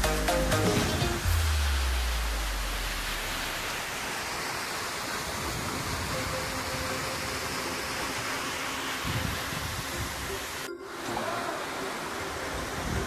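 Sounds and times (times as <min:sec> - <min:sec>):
waterfall pouring into pool: 0:01.2 - 0:13.0.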